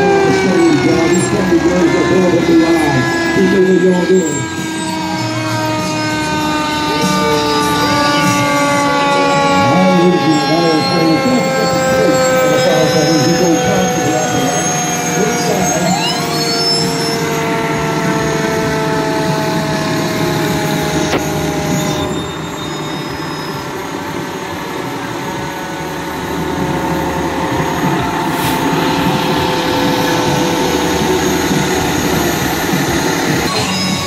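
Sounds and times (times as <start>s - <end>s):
heavy truck engine running: 0.0s - 34.0s.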